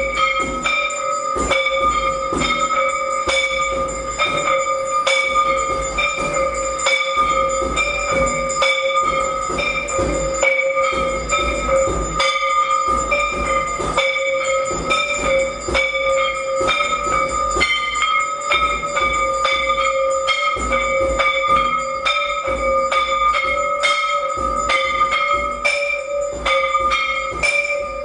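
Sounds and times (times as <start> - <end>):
temple bells ringing: 0.0 - 28.0.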